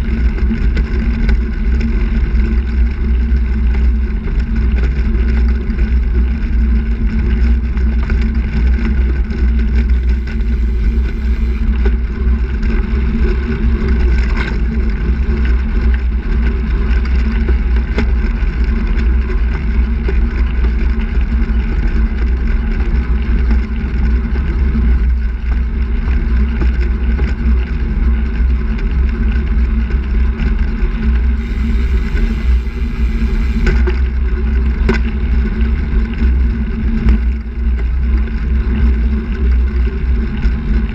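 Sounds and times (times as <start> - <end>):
low wind rumble on microphone: 0.0 - 40.9
tyres rolling on asphalt: 0.0 - 40.9.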